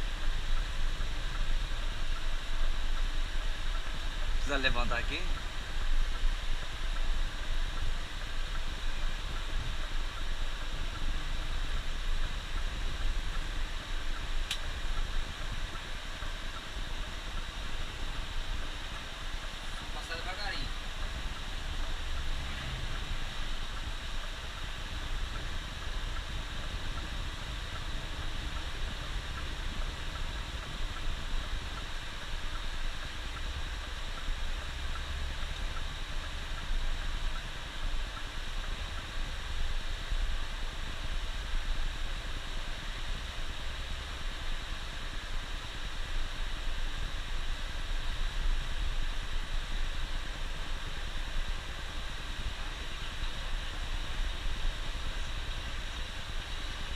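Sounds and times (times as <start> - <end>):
diesel bus engine running: 0.0 - 45.8
tyres hissing on road: 0.0 - 56.9.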